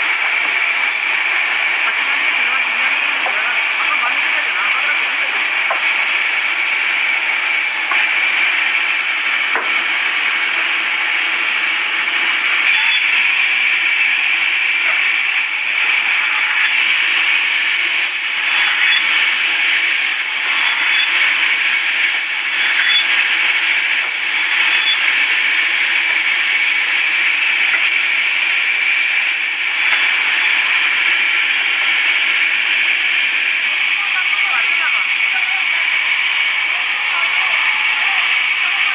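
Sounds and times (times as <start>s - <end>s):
saw cutting through wood: 0.0s - 38.9s.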